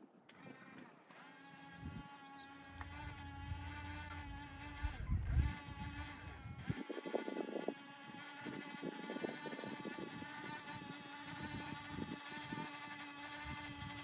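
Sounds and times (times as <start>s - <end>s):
small electric motor whining: 0.3s - 14.0s.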